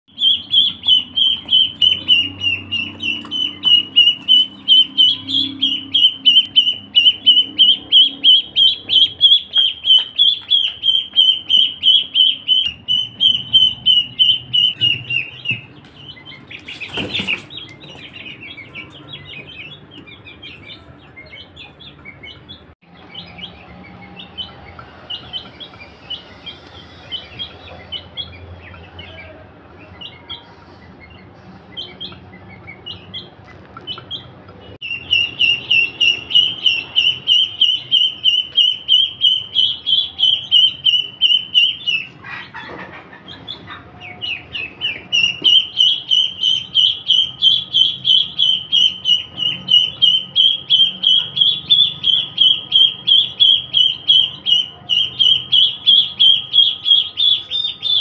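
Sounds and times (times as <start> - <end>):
chicks peeping: 0.1 - 58.0.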